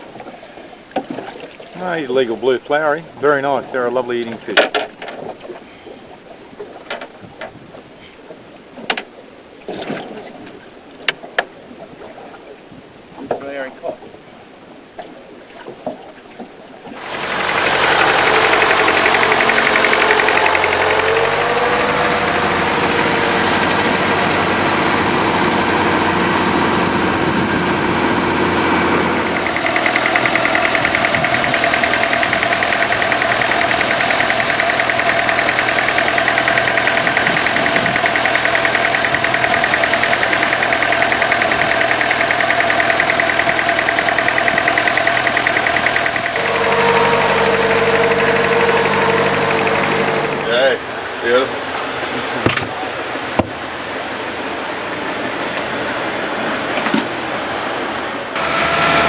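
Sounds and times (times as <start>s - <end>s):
boat engine running: 0.0s - 14.2s, 15.1s - 59.0s.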